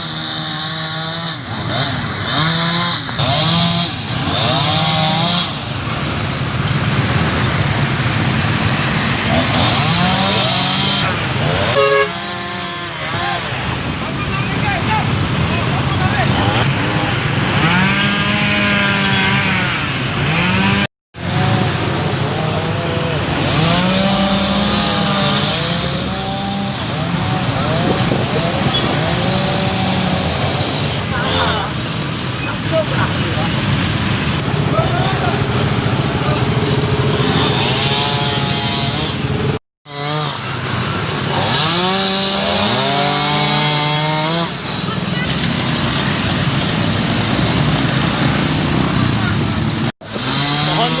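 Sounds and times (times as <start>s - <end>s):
chainsaw cutting at high revs: 0.0s - 51.0s.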